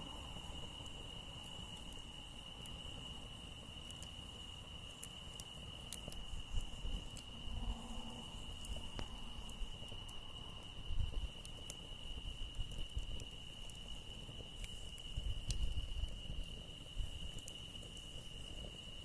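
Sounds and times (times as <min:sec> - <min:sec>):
campfire crackling: 0:00.0 - 0:19.0
insects trilling: 0:00.0 - 0:19.0.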